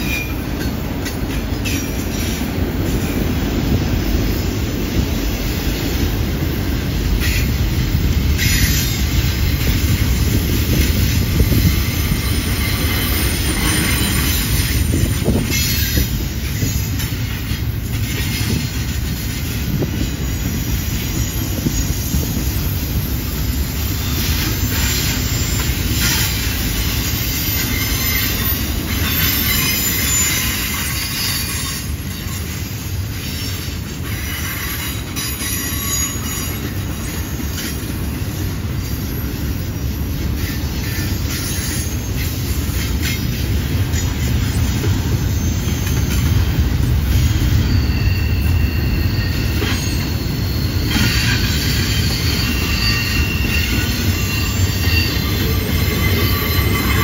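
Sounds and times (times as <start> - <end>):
train wheels rumbling on rail: 0.0 - 57.0
wheel flange squeal: 8.3 - 17.4, 18.0 - 32.6, 33.2 - 57.0.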